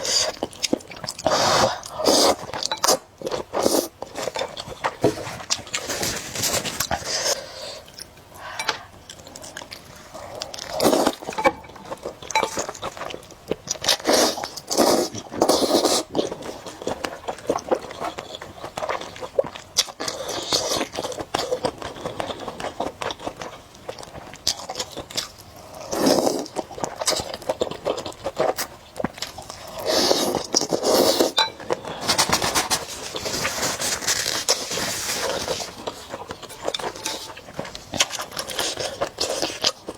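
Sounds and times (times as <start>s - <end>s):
noodle slurping and chewing: 0.0s - 39.9s.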